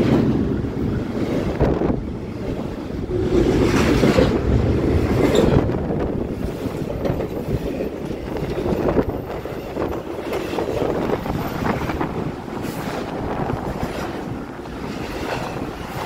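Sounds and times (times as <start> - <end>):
freight train wheels clattering: 0.0 - 16.0
wind buffeting microphone: 0.0 - 16.0.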